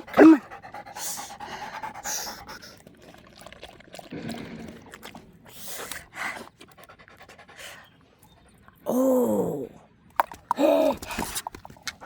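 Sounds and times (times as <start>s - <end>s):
dog lapping water: 0.0s - 8.8s, 10.1s - 12.0s.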